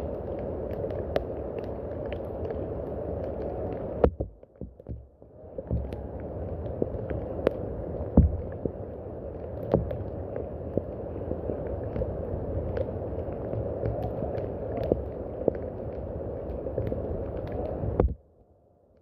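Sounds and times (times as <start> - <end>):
water drips and splashes: 0.0 - 18.2
steady rain: 0.0 - 18.3.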